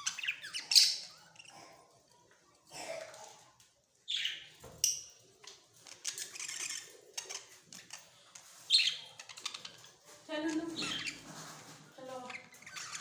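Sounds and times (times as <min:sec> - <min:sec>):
budgerigars chirping and chattering: 0:00.0 - 0:02.0, 0:04.1 - 0:13.0.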